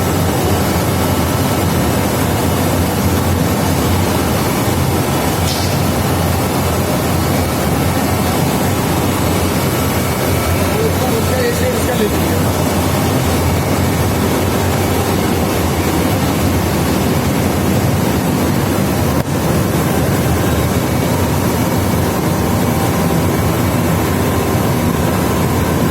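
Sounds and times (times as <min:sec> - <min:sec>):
industrial machinery drone: 0:00.0 - 0:25.9.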